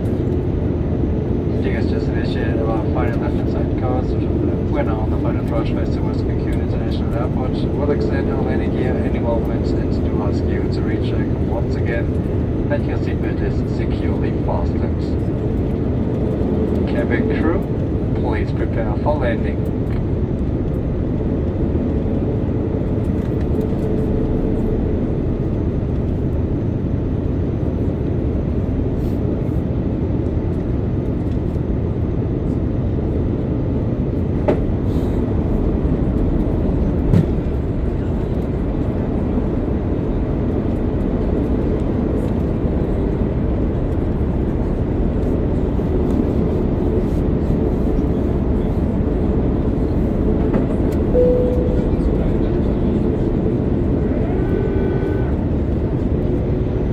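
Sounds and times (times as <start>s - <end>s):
airliner cabin engine noise: 0.0s - 56.9s.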